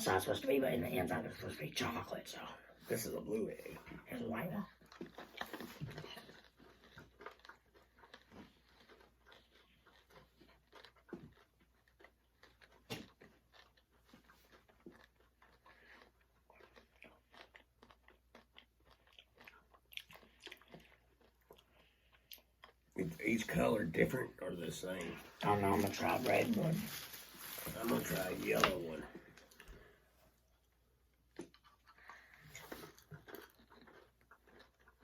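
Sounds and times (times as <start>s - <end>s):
crunching candy-shelled chocolate eggs: 4.4s - 35.0s.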